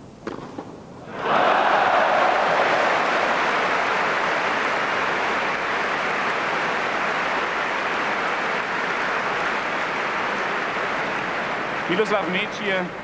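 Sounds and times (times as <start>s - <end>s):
crowd applauding: 1.1s - 13.0s.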